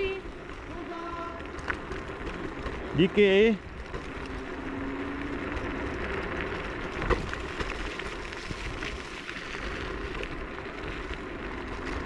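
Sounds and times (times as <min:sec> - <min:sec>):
small rattles and clicks: 0:00.0 - 0:12.0
tyres crackling on rough ground: 0:00.0 - 0:12.0.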